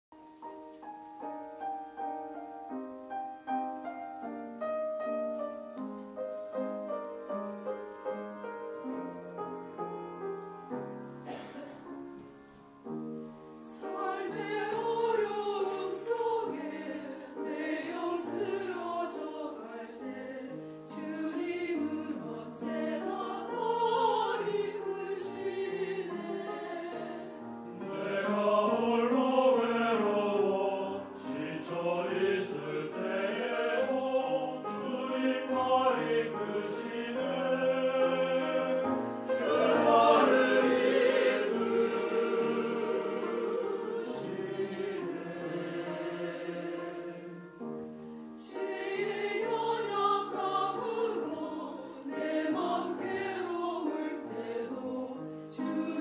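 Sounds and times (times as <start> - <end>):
church choir singing: 0.8 - 56.0.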